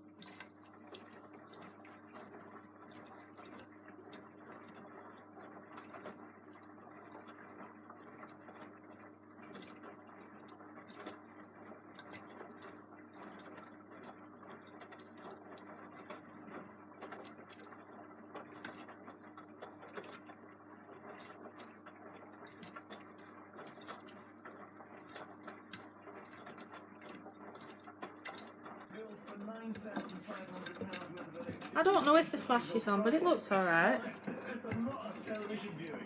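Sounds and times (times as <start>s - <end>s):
washing machine motor hum: 0.0s - 36.0s.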